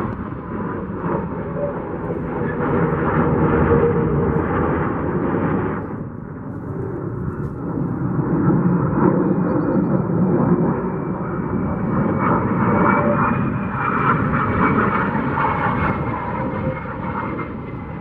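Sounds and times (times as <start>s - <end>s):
jet engine rumble on takeoff: 0.0s - 18.0s
jet flying past: 0.0s - 18.0s.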